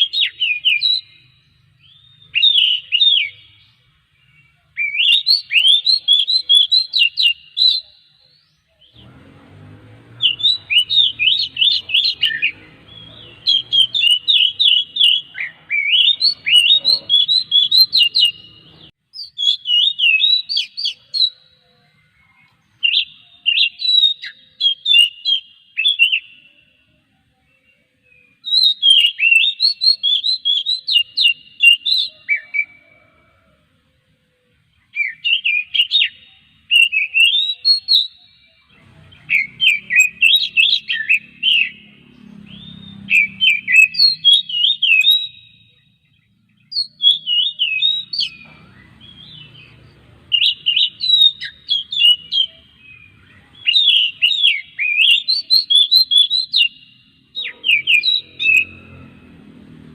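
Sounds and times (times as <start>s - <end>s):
bird singing whistled notes: 0.0s - 33.4s, 34.6s - 59.4s.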